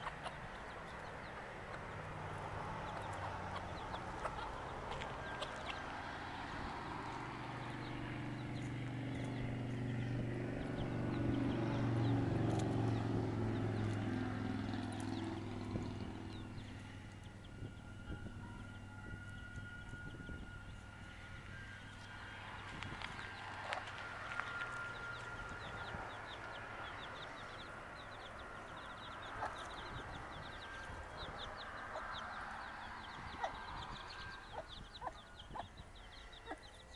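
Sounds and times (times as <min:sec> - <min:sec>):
chicks peeping: 0:00.0 - 0:20.8, 0:21.9 - 0:36.9
vehicle engine passing by: 0:00.0 - 0:36.9.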